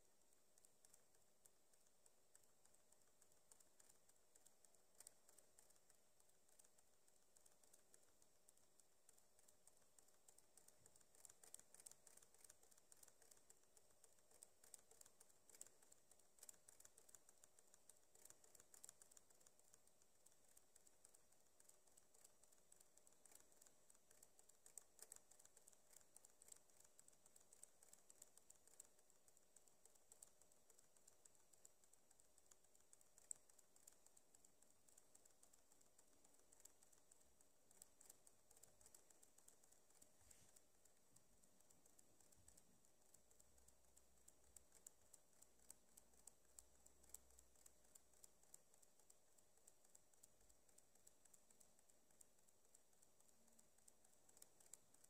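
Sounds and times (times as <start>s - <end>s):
rapid mouse wheel clicking: 0.0s - 55.0s.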